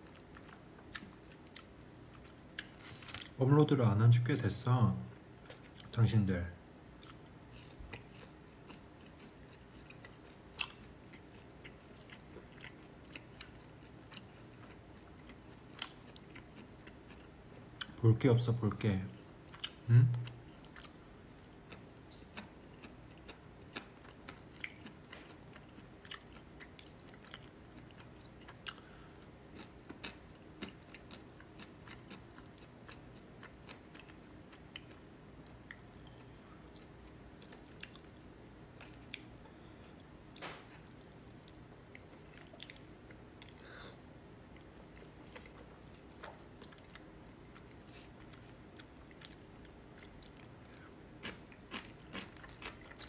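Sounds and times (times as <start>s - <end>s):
chewing: 0.0s - 3.4s, 7.0s - 18.0s, 19.1s - 21.0s, 21.6s - 53.0s
faint low hum: 0.0s - 53.0s.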